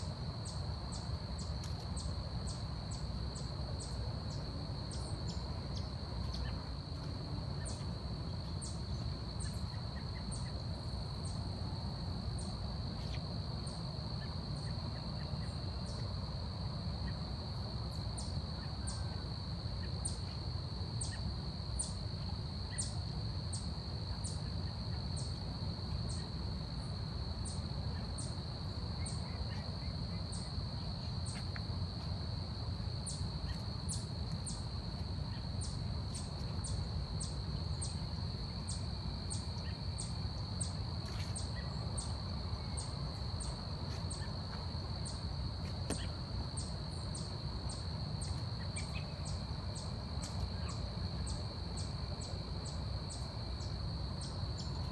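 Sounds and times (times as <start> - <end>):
high insect drone: 0.0 - 54.9.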